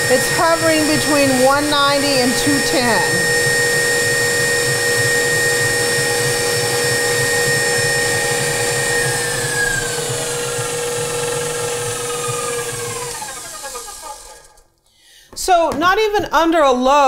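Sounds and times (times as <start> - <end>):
stand mixer motor whine: 0.0 - 14.6.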